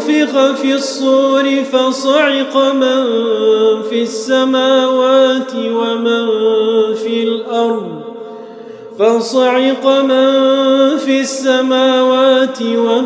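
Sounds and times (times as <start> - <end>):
man chanting melodically: 0.0 - 8.2, 8.8 - 13.0.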